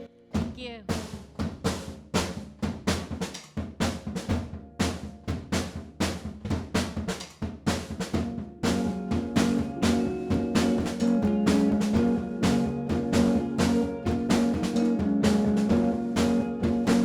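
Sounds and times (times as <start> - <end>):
drum kit playing a steady beat: 0.4 - 17.0.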